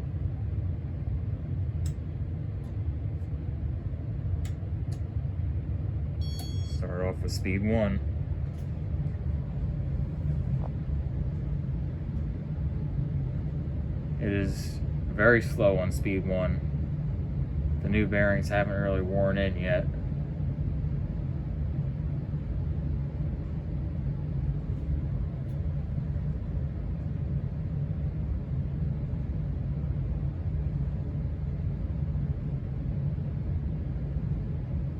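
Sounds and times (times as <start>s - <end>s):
hvac system rumbling: 0.0s - 34.9s.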